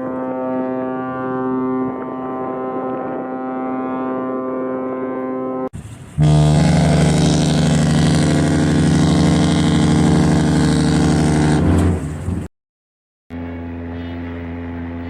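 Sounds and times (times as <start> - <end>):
deep ship's horn blast: 0.0 - 12.5, 13.3 - 15.0.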